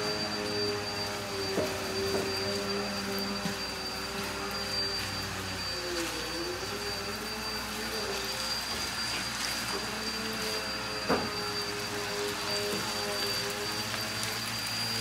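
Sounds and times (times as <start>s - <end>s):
chicken sizzling in a frying pan: 1.2s - 15.0s.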